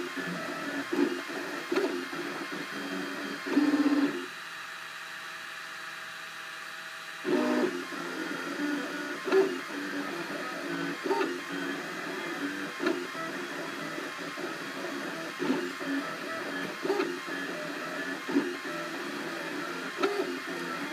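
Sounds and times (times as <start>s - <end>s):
stepper motors whining and buzzing: 0.0s - 4.3s, 7.2s - 20.9s
steady printer hum: 0.0s - 20.9s.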